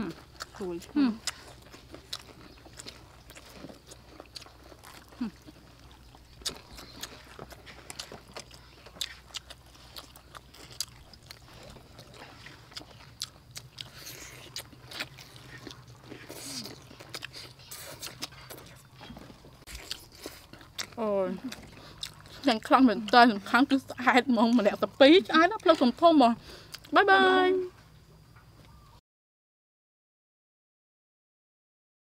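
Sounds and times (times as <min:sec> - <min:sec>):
crunching fried chicken: 0:00.0 - 0:27.5
chewing: 0:00.0 - 0:27.9.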